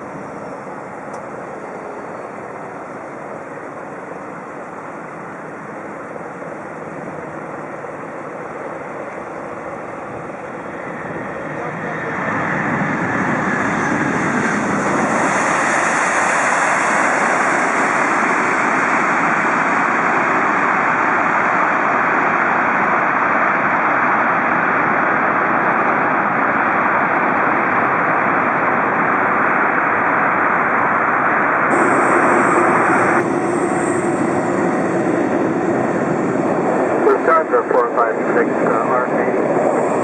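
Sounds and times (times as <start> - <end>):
jet airliner roar: 0.0 - 40.0.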